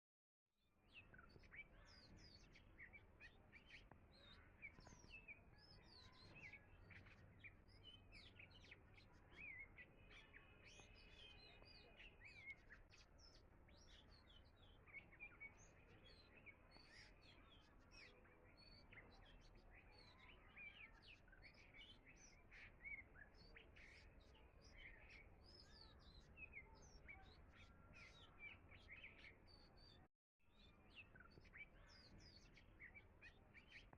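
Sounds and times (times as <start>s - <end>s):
small birds chirping and trilling: 0.6s - 33.9s.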